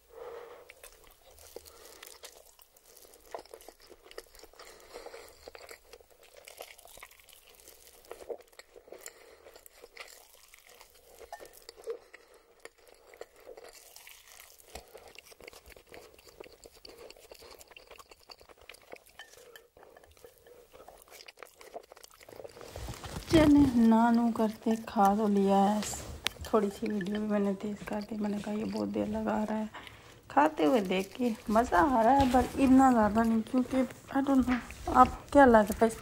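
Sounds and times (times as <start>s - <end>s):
slurping and chewing noodles: 0.0s - 36.0s.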